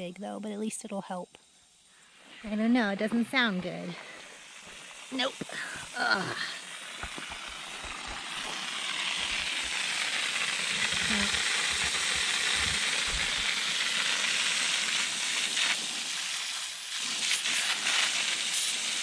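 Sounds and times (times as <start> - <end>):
pressurised water hissing and spraying: 1.2 - 19.0.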